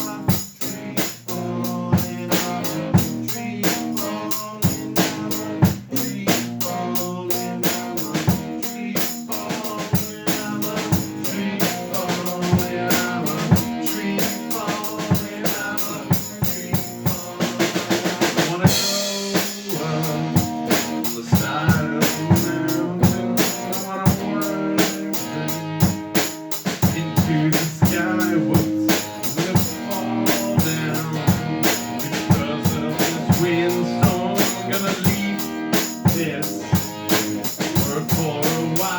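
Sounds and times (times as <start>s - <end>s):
drum kit beat: 0.0s - 38.9s
rock band playing: 0.0s - 38.9s.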